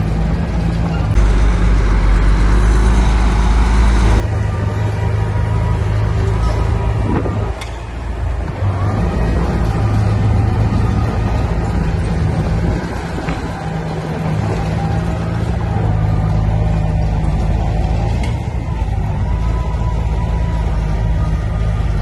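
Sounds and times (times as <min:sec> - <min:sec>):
diesel machinery engine running: 0:00.0 - 0:22.0.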